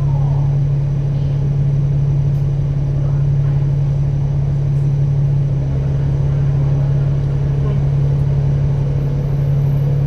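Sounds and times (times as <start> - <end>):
bus engine hum: 0.0 - 10.0
road rumble: 0.0 - 10.0.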